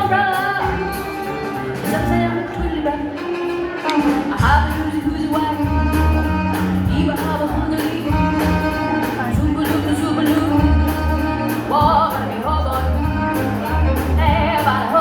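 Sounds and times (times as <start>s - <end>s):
live jazz band playing: 0.0s - 15.0s.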